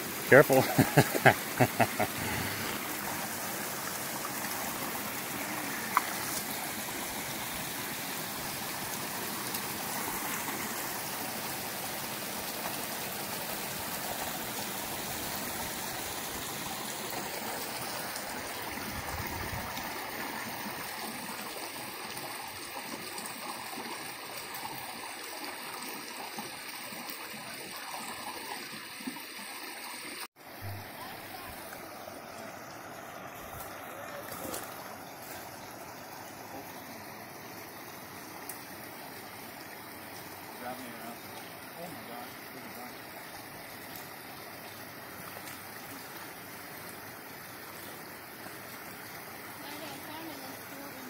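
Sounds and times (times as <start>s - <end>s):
creek running over stones: 0.0s - 51.0s.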